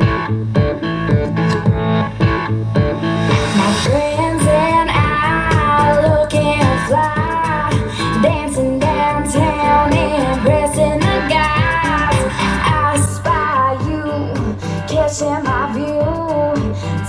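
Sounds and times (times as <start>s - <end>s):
pop song through a speaker: 0.0s - 17.0s.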